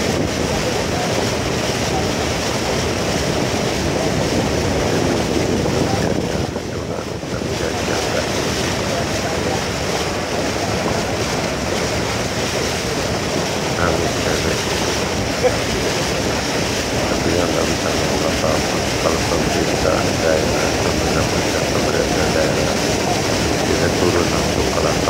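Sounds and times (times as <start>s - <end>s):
boat engine running: 0.0s - 25.0s
water rushing along hull: 0.0s - 25.0s
wind buffeting microphone: 0.0s - 25.0s.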